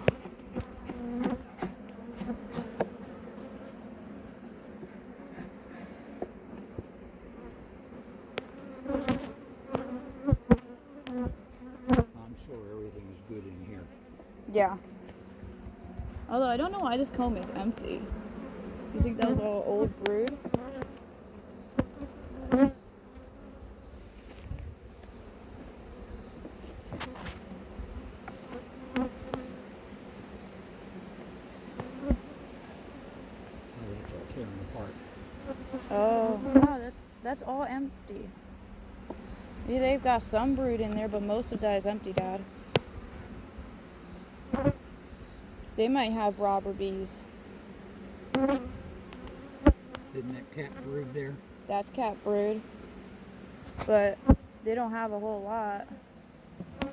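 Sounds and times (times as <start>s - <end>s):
honeybees buzzing: 0.0s - 56.9s.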